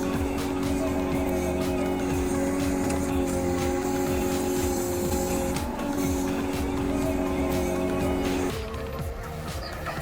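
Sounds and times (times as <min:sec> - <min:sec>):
background music with light beat: 0:00.0 - 0:10.0.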